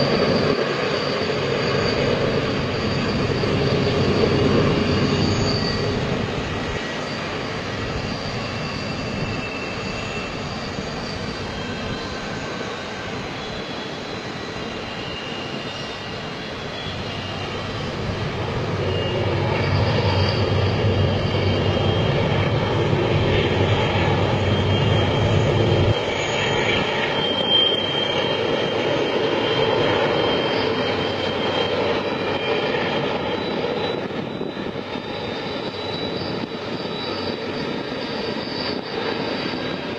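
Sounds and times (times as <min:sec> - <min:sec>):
high-pitched wheel squeals: 0:00.0 - 0:39.9
train rumbling on rails: 0:00.0 - 0:39.9.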